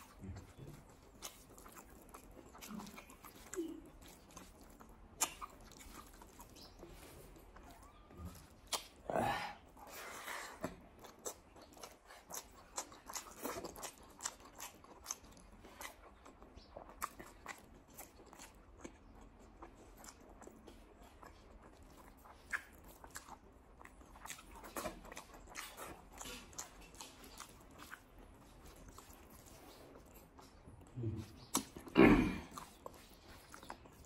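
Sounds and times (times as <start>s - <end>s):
close-up chewing: 0.0s - 34.0s.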